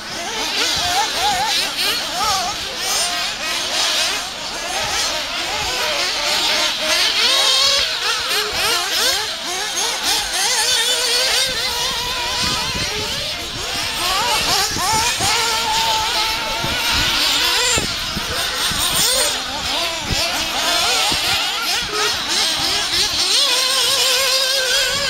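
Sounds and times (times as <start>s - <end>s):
small high-revving buggy engines: 0.0s - 25.0s.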